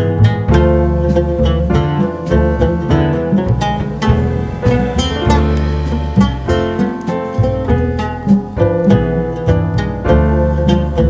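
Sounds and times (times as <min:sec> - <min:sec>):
acoustic guitar music with beat: 0:00.0 - 0:11.0.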